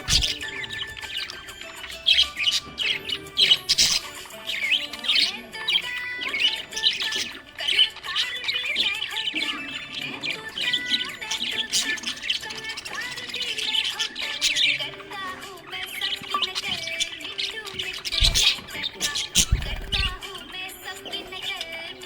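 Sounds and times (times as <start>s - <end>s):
budgerigar chirping: 0.0s - 22.0s.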